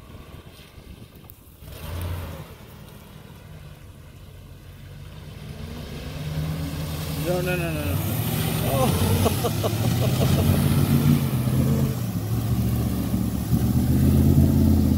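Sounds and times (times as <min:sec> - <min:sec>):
pickup engine revving: 0:01.6 - 0:14.9.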